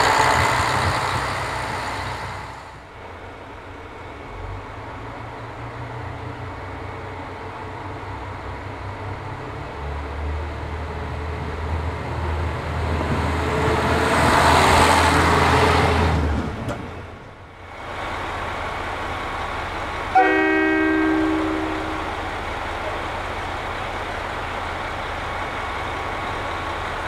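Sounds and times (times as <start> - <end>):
diesel railcar engine: 0.0 - 27.0.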